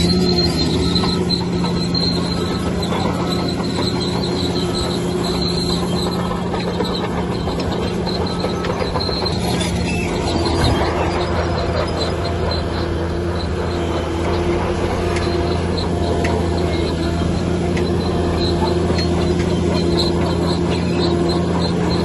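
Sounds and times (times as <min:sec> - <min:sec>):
bulldozer diesel engine running: 0:00.0 - 0:22.0
steel tracks squealing: 0:00.0 - 0:22.0.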